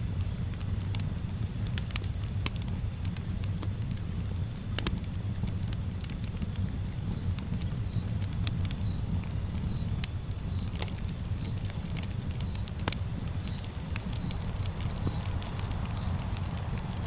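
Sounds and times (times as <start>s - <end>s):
campfire burning: 0.0s - 17.0s
wood crackling and popping: 0.0s - 17.0s.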